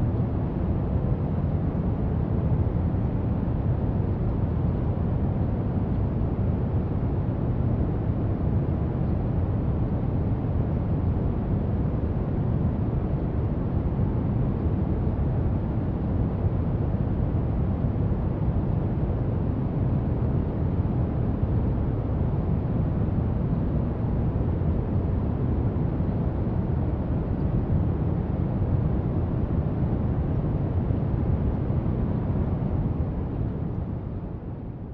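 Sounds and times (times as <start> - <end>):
low brown noise hiss: 0.0 - 34.9.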